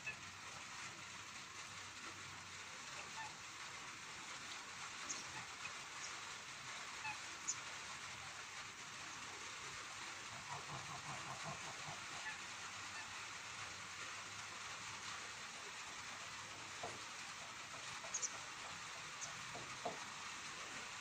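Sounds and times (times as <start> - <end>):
light rain hissing: 0.0 - 21.0.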